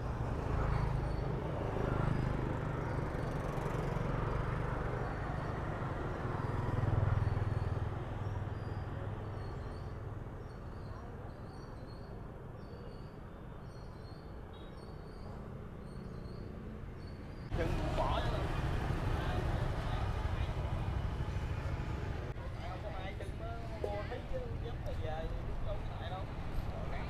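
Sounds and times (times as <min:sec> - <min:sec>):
passing traffic rumble: 0:00.0 - 0:12.6, 0:13.2 - 0:27.0.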